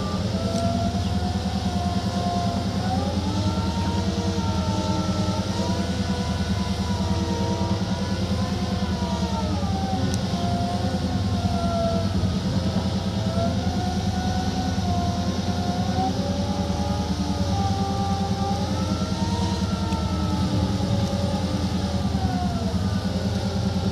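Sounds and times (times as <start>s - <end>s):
excavator diesel engine running: 0.0s - 23.9s
hydraulic whine: 0.0s - 23.9s.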